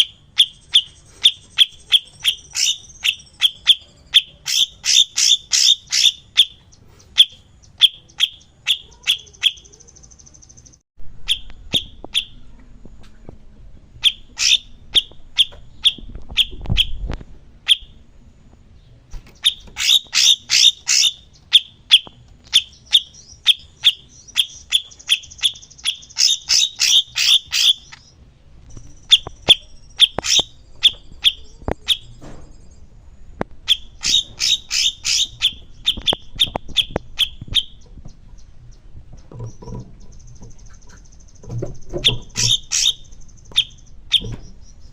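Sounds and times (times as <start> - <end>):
songbird chipping notes: 0.0 - 12.4, 14.0 - 18.0, 18.8 - 33.0, 33.6 - 44.9
buzzy bird trill: 0.0 - 12.5, 14.0 - 18.0, 19.1 - 44.9.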